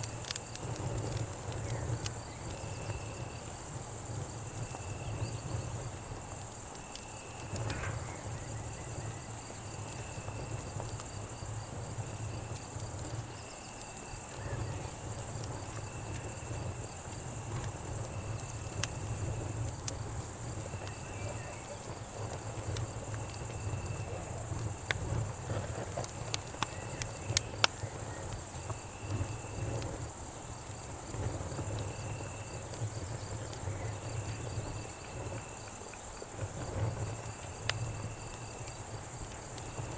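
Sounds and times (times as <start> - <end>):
campfire crackling and popping: 0.0 - 13.4, 14.3 - 39.9
cricket chirping trill: 0.0 - 39.9
insect chorus buzzing: 0.0 - 39.9.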